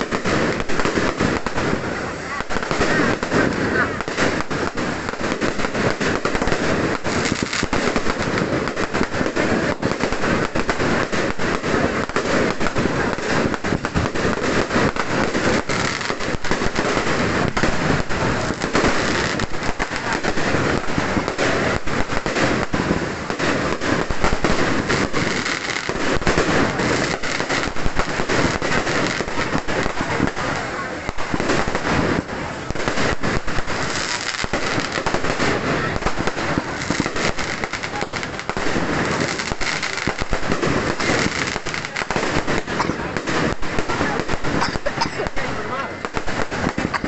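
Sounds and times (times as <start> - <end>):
firecrackers crackling: 0.0 - 47.0.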